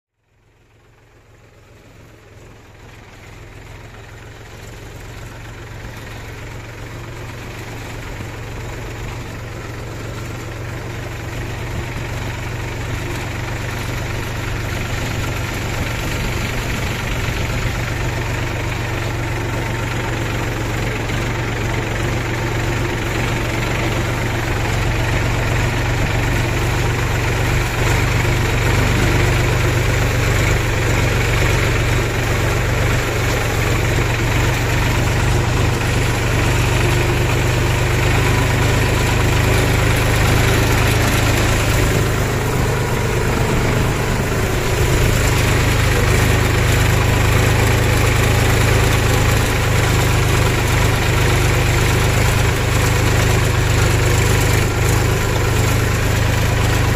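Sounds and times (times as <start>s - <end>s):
tractor diesel engine running: 0.2s - 56.9s.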